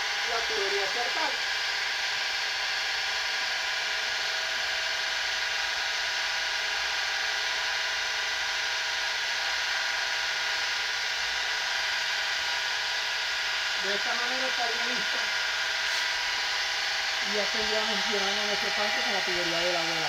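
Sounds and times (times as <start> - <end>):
electric water pump humming: 0.0 - 20.0.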